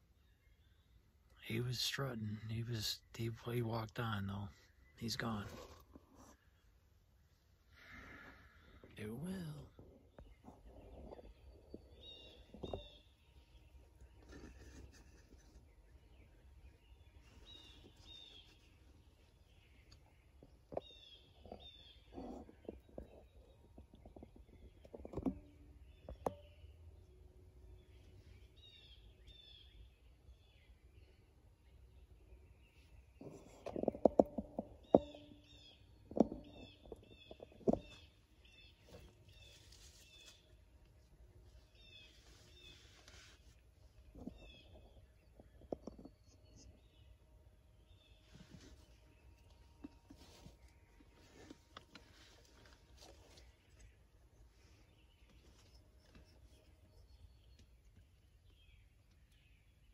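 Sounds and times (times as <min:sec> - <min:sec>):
faint songbird chirps: 0:00.0 - 0:59.9.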